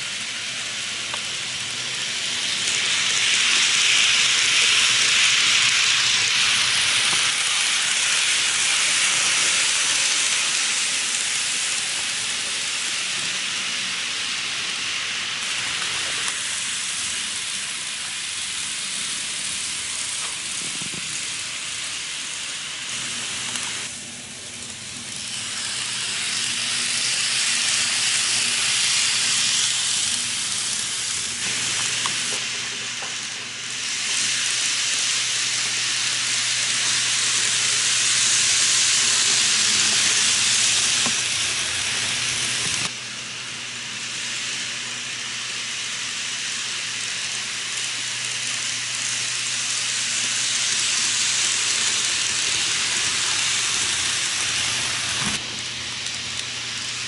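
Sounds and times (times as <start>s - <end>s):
model train wheels rolling on rails: 0.0s - 57.0s.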